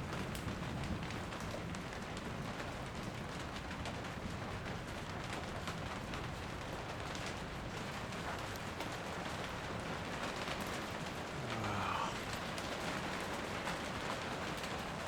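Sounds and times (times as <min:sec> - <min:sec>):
steady rain hiss: 0:01.9 - 0:15.0.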